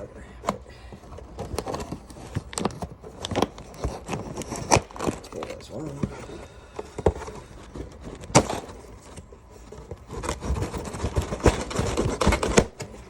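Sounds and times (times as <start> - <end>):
cardboard box scraping and rustling: 0.0 - 13.0.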